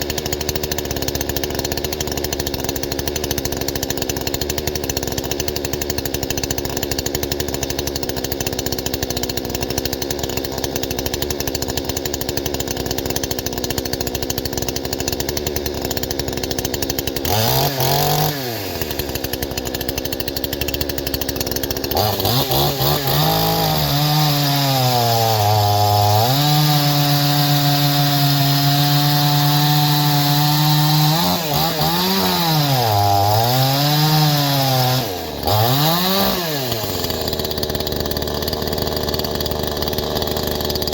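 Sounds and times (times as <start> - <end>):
chainsaw cutting wood: 0.0 - 40.9
chainsaw running and revving: 0.0 - 40.9.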